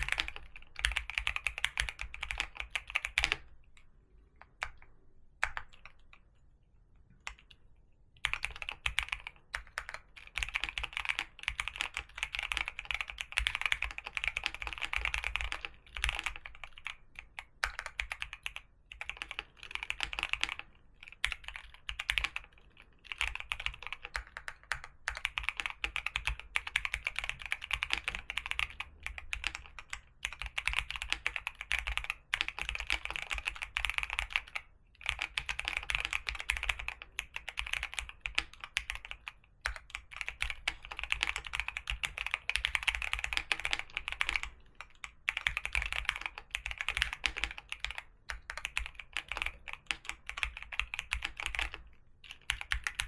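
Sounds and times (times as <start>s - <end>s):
fast typing on a keyboard: 0.0s - 3.5s, 5.4s - 6.2s, 8.2s - 53.0s.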